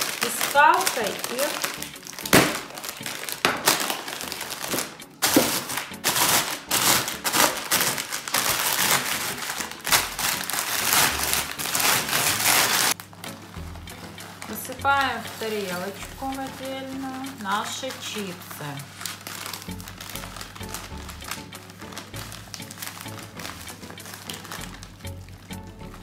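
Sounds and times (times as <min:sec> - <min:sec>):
chips crackling as crushed: 0:00.0 - 0:26.0
foil bag crinkling: 0:00.0 - 0:26.0.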